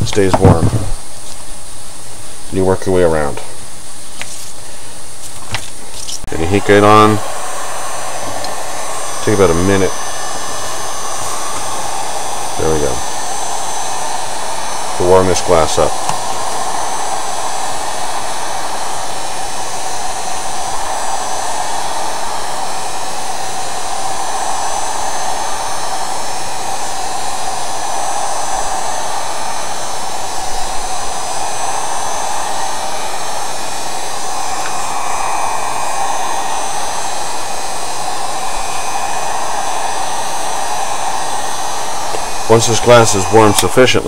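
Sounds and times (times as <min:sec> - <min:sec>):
heat gun blowing: 0:03.3 - 0:44.0.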